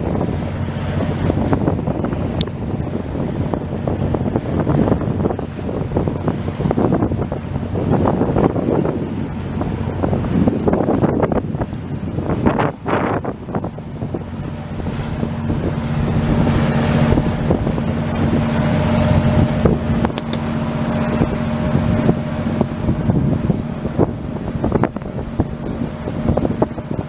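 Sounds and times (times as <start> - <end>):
ferry engine humming: 0.0 - 27.0
wind buffeting microphone: 0.0 - 27.0.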